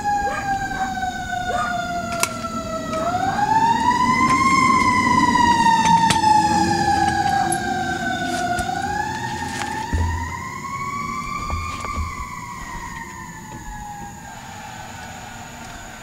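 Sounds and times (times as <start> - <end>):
emergency siren wailing: 0.0 - 16.0.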